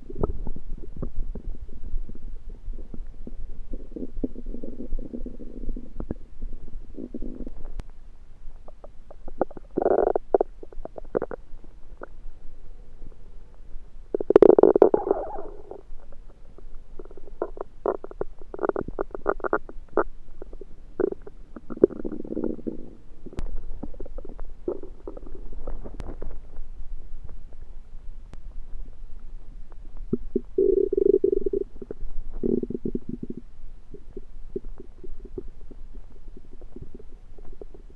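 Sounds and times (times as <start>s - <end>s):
stomach rumbling and gurgling: 0.0s - 37.9s.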